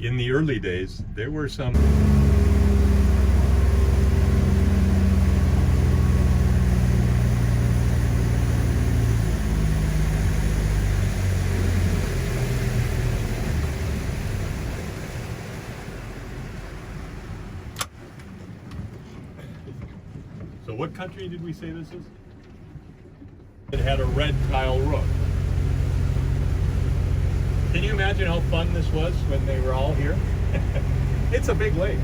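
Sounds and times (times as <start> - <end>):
boat engine running: 0.0 - 23.0, 23.7 - 32.0
wind: 0.0 - 32.0
water noise: 1.6 - 32.0.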